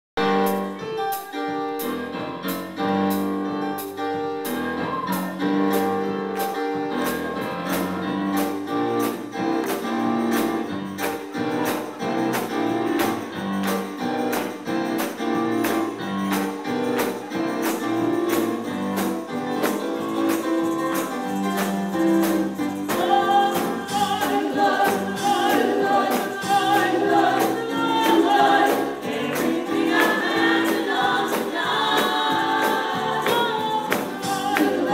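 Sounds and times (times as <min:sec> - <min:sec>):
percussion beat: 0:00.2 - 0:34.9
choir singing gospel: 0:03.6 - 0:34.9.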